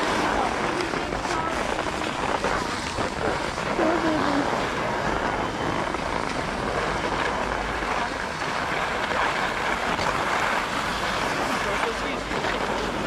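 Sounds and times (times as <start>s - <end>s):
skis scraping over snow: 0.0s - 13.0s
wind rumbling on microphone: 0.0s - 13.0s.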